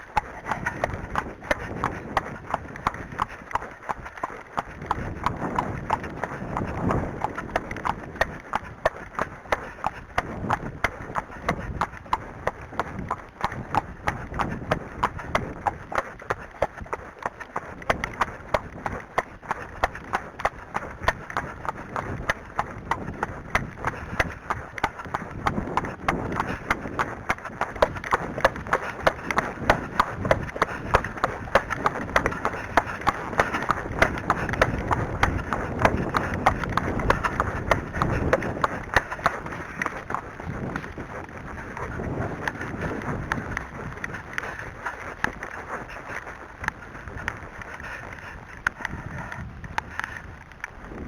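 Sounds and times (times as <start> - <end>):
horse hoofbeats on muddy ground: 0.0 - 50.3.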